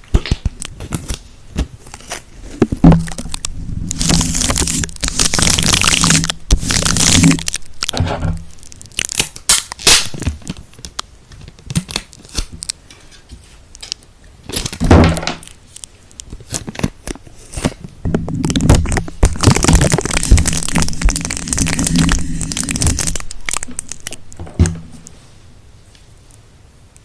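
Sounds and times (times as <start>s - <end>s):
sticky surface peeling apart: 0.1s - 12.8s, 13.8s - 25.1s.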